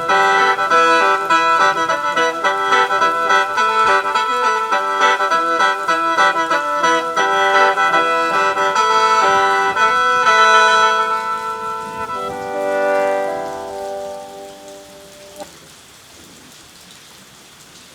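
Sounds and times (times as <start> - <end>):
bamboo mouth organ melody: 0.0 - 15.4.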